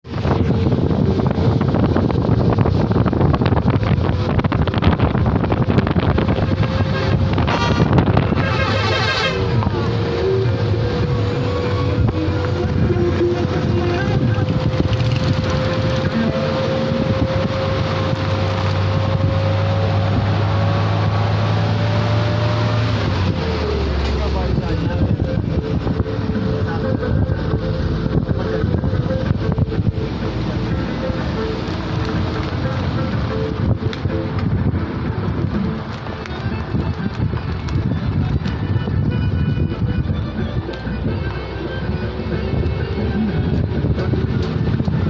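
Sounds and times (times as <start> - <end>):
wind buffeting microphone: 0.0 - 45.0
vehicle engine running: 0.1 - 45.0.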